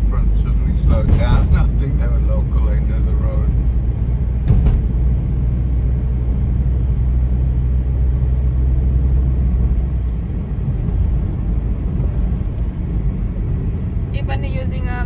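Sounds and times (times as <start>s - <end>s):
car driving over bumpy road: 0.0s - 15.0s.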